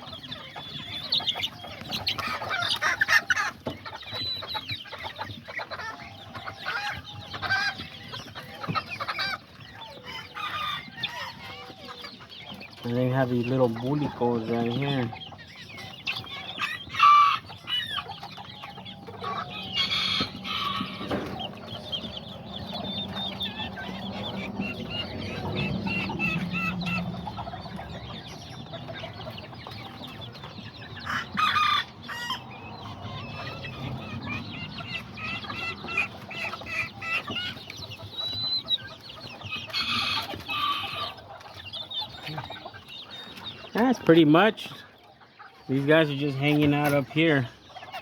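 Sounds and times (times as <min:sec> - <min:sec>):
roosters crowing: 0:00.0 - 0:44.9
chickens clucking: 0:00.0 - 0:48.0.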